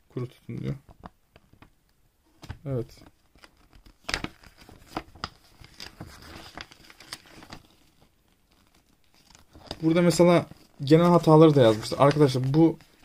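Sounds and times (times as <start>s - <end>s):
paper pages rustling: 2.4s - 13.0s.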